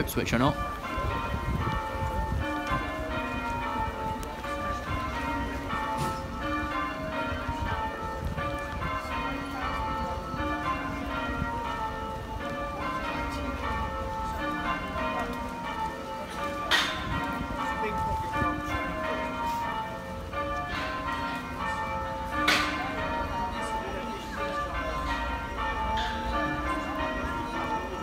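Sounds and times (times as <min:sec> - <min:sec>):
church bells ringing: 0:00.0 - 0:28.0.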